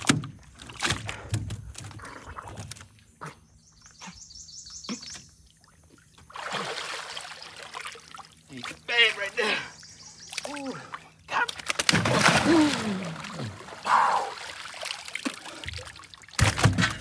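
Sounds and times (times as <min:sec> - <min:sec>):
water splashing and sloshing: 0:00.0 - 0:03.4, 0:05.2 - 0:17.0.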